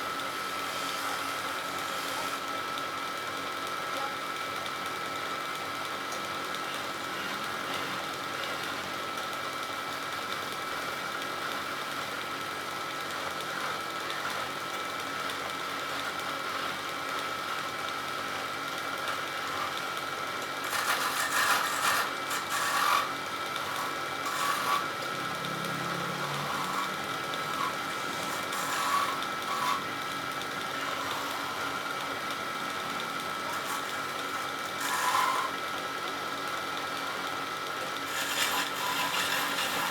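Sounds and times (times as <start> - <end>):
wood lathe motor whine: 0.0 - 39.9
chisel scraping spinning wood: 0.2 - 2.4, 5.9 - 39.9.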